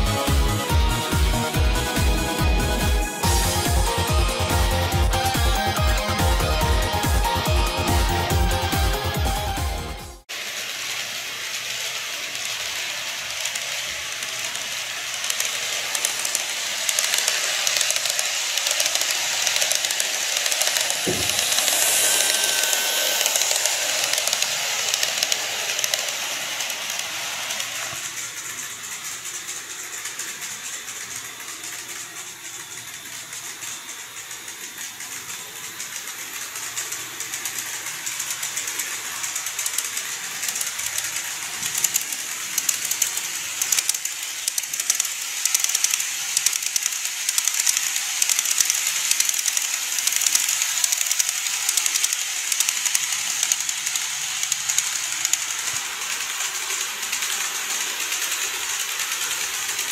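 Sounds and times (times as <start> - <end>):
model train clicking on track: 10.3 - 59.9.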